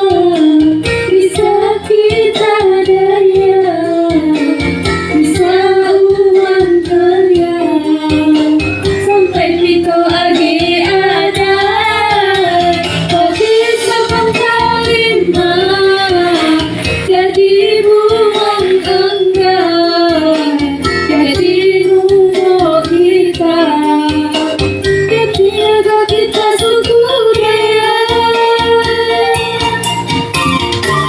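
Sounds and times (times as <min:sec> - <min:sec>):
woman singing: 0:00.0 - 0:30.0
backing track music: 0:00.0 - 0:31.0.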